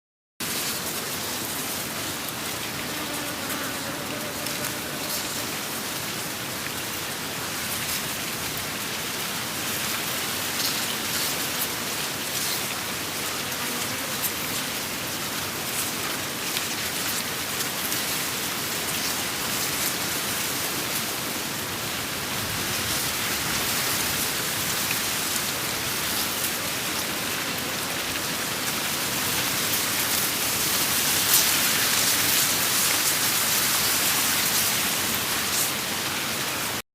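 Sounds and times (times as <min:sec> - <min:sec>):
wind hiss: 0:00.4 - 0:36.8.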